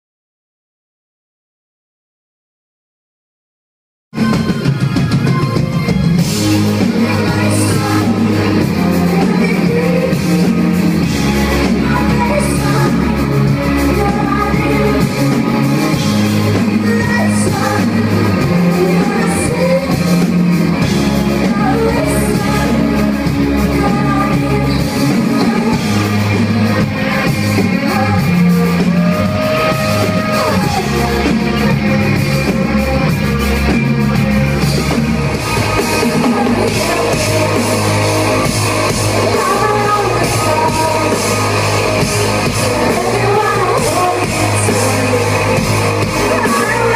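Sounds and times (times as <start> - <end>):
drums: 4.1 - 46.9
guitar: 4.1 - 46.9
pulsing bass line: 4.2 - 46.9
person singing: 6.3 - 33.1, 34.4 - 46.9.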